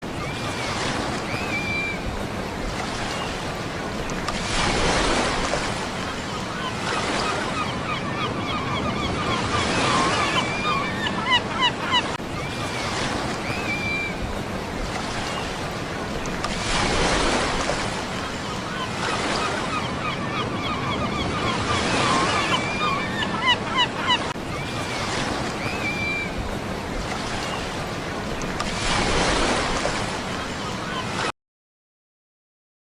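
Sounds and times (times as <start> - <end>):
ocean waves breaking: 0.0 - 31.3.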